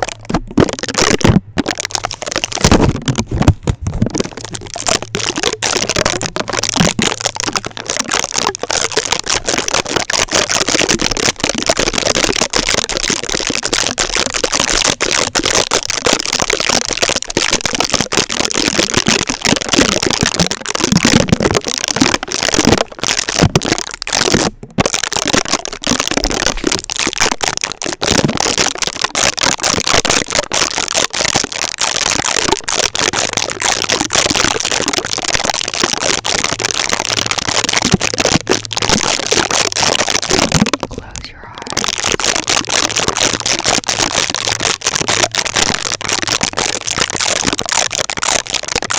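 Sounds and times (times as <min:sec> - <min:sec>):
tape crackling on microphone: 0:00.0 - 0:48.9.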